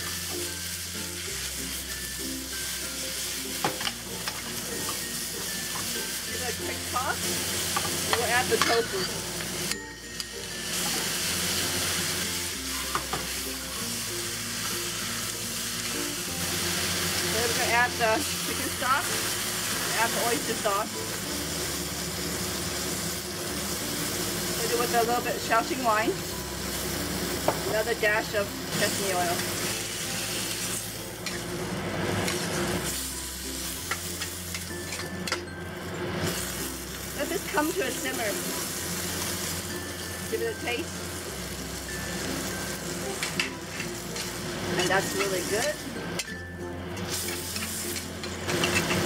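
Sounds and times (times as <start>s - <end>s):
food sizzling in a wok: 0.0s - 49.0s
spatula stir-frying: 0.0s - 49.0s.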